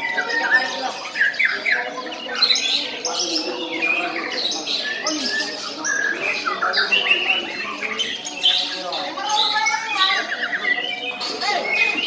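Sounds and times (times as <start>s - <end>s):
caged songbirds singing: 0.0s - 12.0s.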